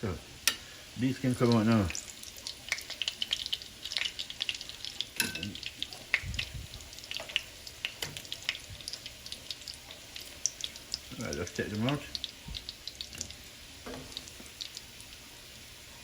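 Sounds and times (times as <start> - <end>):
fritters frying in hot oil: 0.0 - 16.0.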